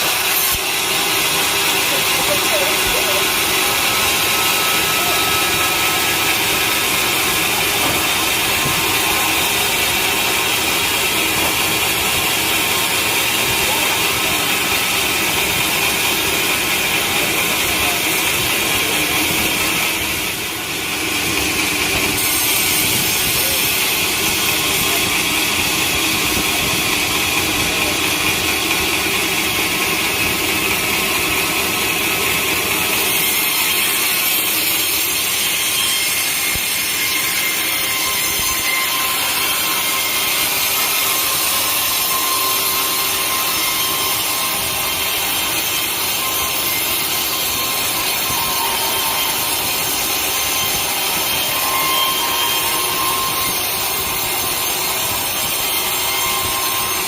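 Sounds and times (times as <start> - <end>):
saw cutting through log: 0.0 - 57.0.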